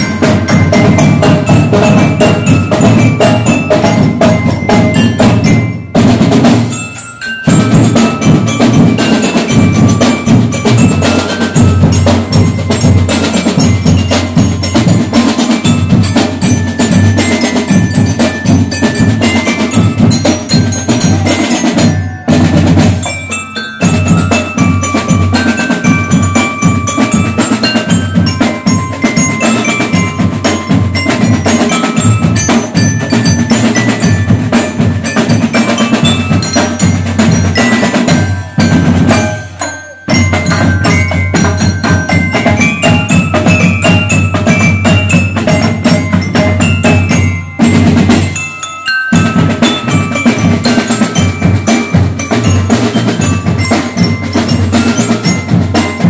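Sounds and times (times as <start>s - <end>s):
bell lyre melody: 0.0s - 56.0s
marching drums: 0.0s - 56.0s.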